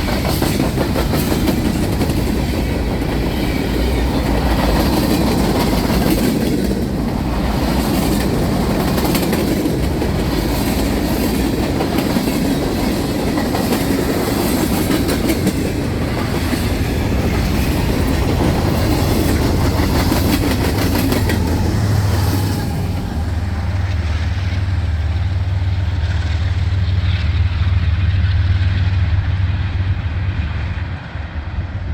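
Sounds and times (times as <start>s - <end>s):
wheels clicking over rail joints: 0.0s - 30.6s
freight train cars rolling: 0.0s - 31.9s.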